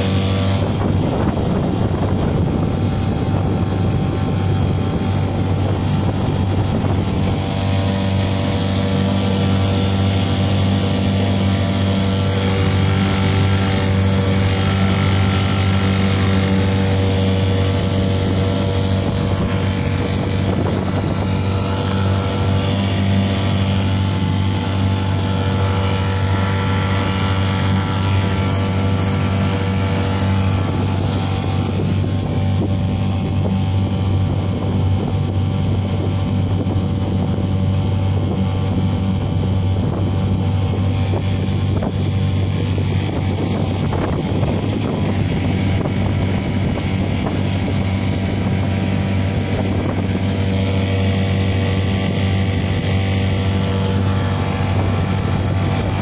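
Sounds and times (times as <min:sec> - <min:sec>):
outboard motor running: 0:00.0 - 0:56.0
water rushing: 0:00.0 - 0:56.0.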